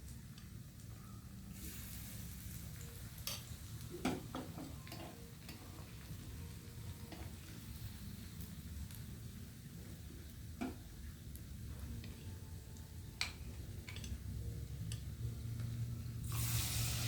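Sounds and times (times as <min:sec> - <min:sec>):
food frying in hot oil: 0:00.0 - 0:17.0
stove hum: 0:00.0 - 0:17.0.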